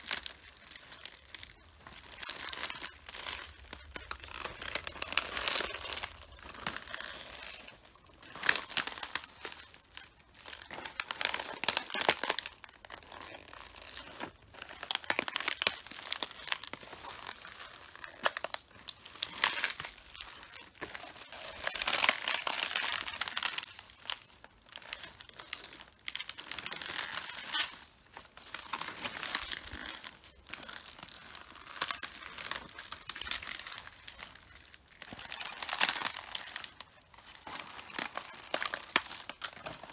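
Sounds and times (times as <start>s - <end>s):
footsteps crushing cabbage leaves: 0.0s - 39.9s.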